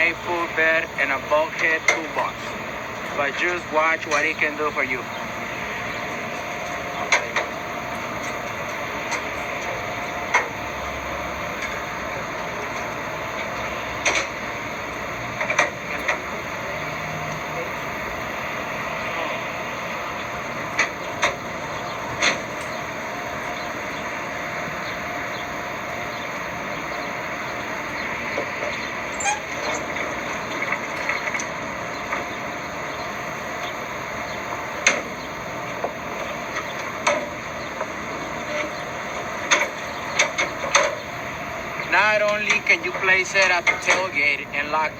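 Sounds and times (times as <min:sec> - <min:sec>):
steady background noise: 0:00.0 - 0:44.9.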